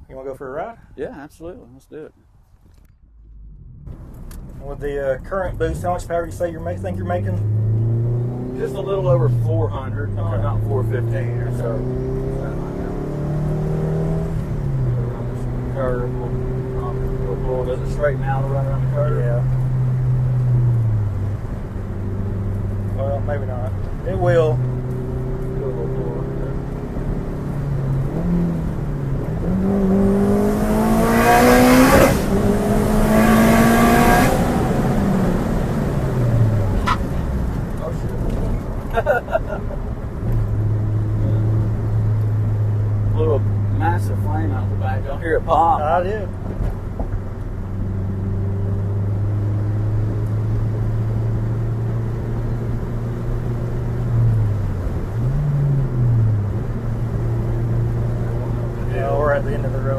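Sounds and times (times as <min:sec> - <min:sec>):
road noise: 0:00.0 - 0:59.9
car engine revving: 0:03.0 - 0:59.9.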